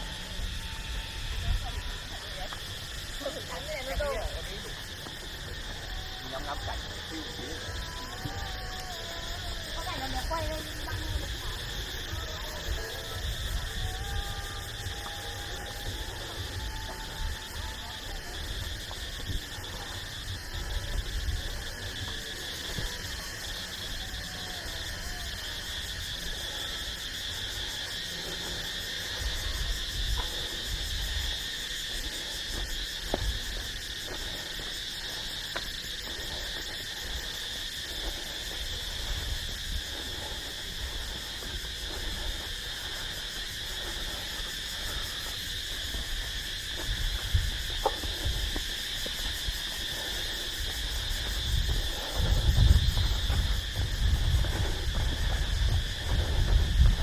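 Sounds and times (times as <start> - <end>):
insects buzzing and trilling: 0.0 - 57.0.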